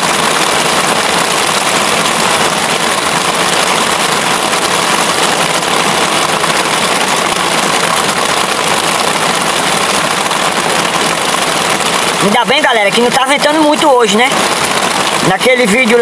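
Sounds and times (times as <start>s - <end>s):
heavy rain on a tent: 0.0s - 16.0s.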